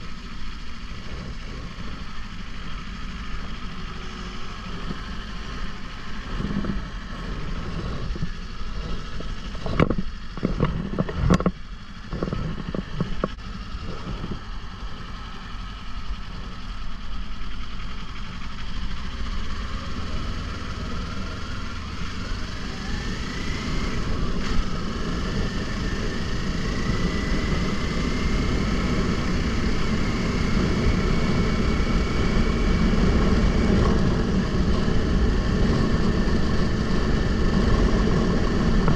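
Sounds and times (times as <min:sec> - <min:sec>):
wind rumbling on microphone: 0:00.0 - 0:15.3, 0:19.9 - 0:38.9
motorcycle engine whine: 0:00.0 - 0:38.9.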